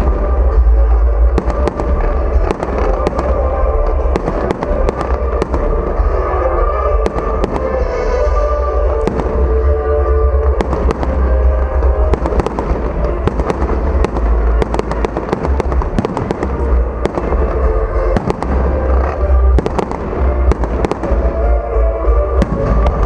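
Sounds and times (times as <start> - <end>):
deep low rumble: 0.0 - 23.0
fireworks bangs and crackles: 0.0 - 23.0
music: 0.0 - 23.0.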